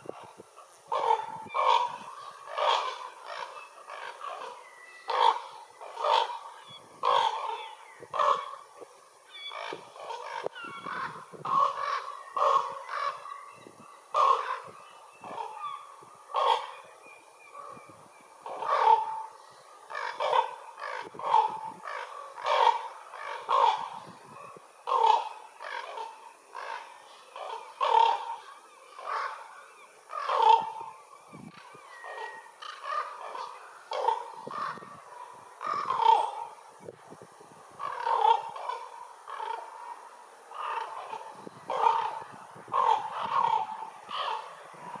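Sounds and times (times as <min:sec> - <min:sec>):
ravens croaking and cawing: 0:00.0 - 0:45.0.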